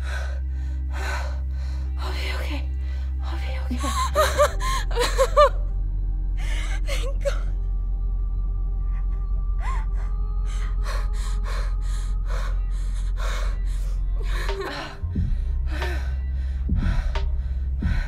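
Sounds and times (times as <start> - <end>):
low music drone: 0.0 - 18.0.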